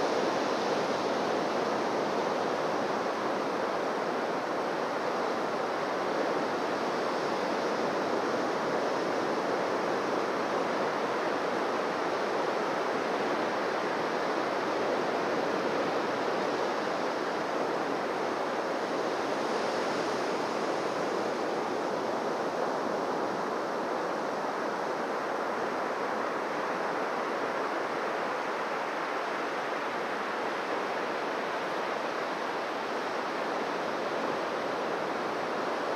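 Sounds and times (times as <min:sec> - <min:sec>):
waves washing on beach: 0:00.0 - 0:35.9.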